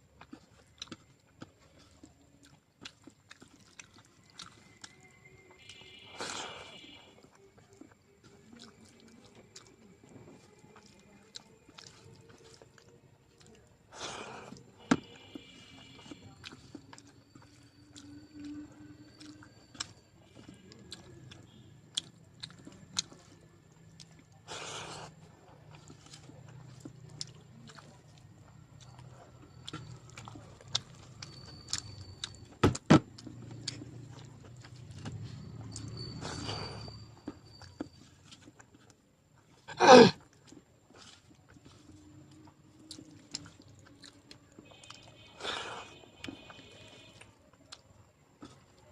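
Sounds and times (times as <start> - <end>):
person chewing: 0.0 - 48.9.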